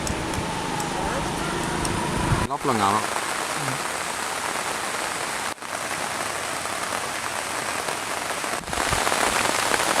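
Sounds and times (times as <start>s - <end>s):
heavy rain patter: 0.0s - 10.0s.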